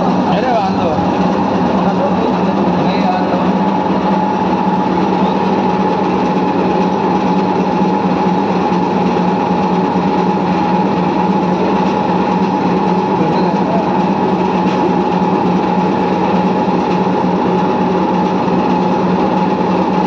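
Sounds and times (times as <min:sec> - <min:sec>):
bread slicing machine running: 0:00.0 - 0:20.0.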